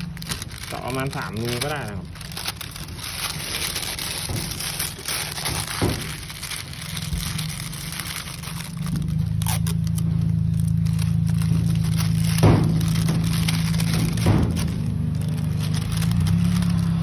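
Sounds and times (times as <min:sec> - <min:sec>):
plastic bag crinkling and rustling: 0:00.0 - 0:17.0.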